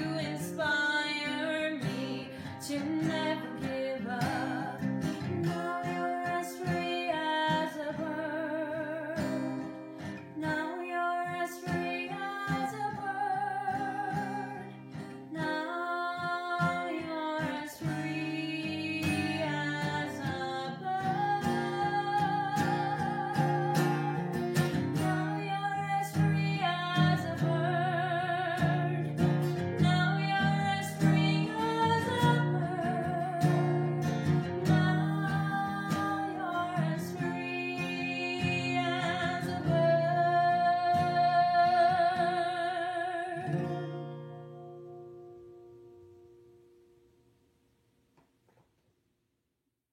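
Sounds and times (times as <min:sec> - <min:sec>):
plucked and strummed guitar: 0:00.0 - 0:47.2.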